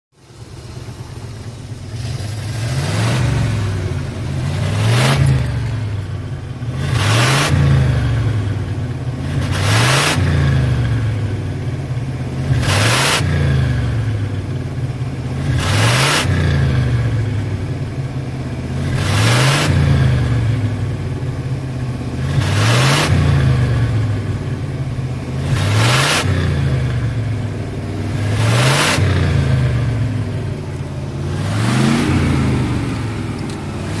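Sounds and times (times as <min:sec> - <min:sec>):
car engine revving: 0:00.2 - 0:34.0.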